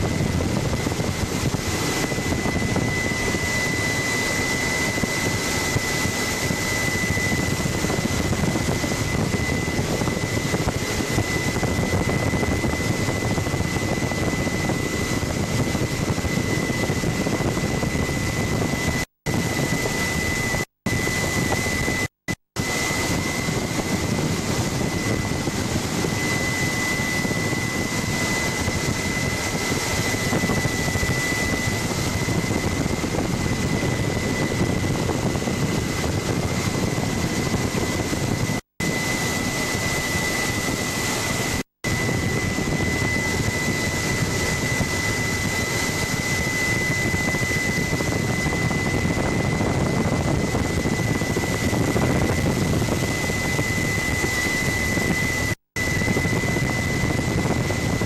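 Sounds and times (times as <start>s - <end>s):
helicopter rotor and engine: 0.0s - 58.0s
high whine: 0.0s - 58.0s.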